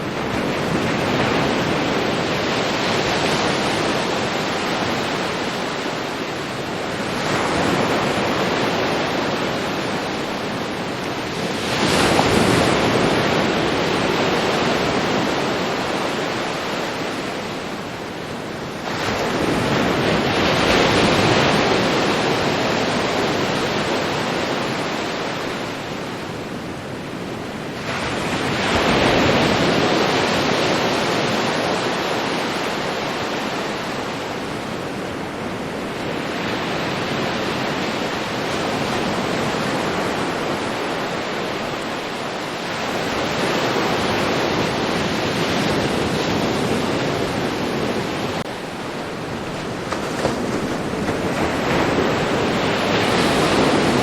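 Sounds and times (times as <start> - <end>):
ocean waves washing up beach: 0.0 - 54.0.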